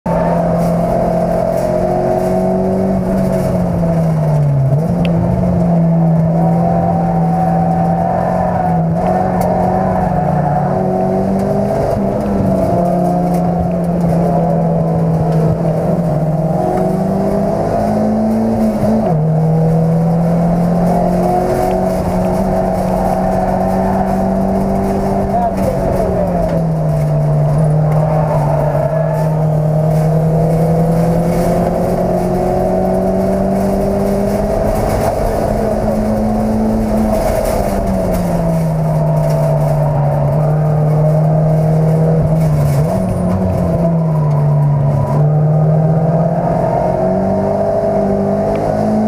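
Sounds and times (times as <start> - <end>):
race car engine under load: 0.0 - 49.0.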